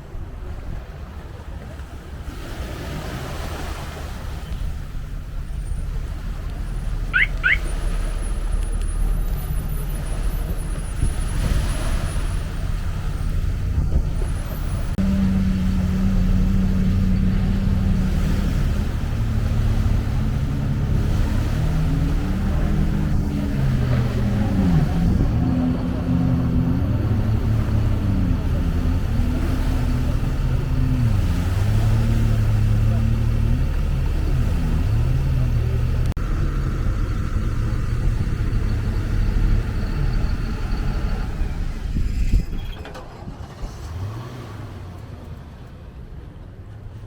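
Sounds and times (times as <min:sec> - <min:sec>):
motor engine rumbling: 0:00.0 - 0:47.0.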